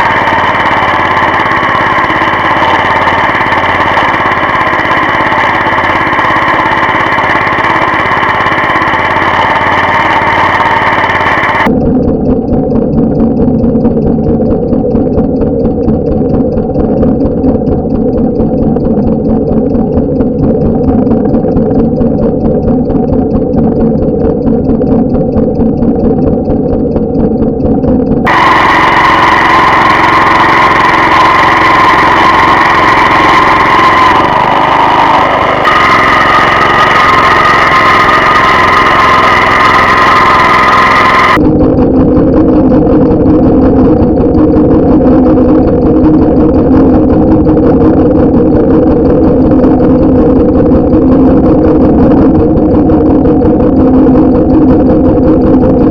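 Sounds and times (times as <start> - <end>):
walk-behind tractor engine running: 0.0 - 55.9.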